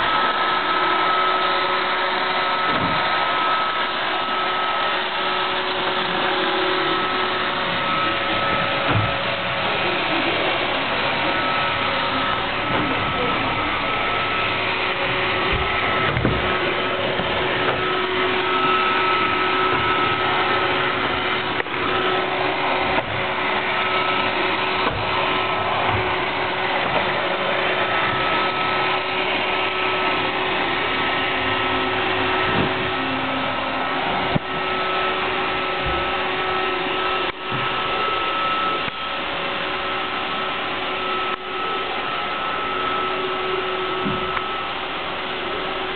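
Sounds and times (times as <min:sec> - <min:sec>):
robot vacuum whirring: 0:00.0 - 0:45.9.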